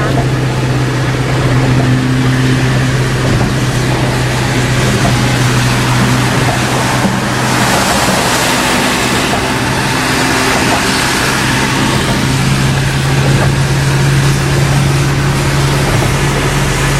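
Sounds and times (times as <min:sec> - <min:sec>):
road and rain hiss: 0:00.0 - 0:16.9
truck engine humming: 0:00.0 - 0:16.9.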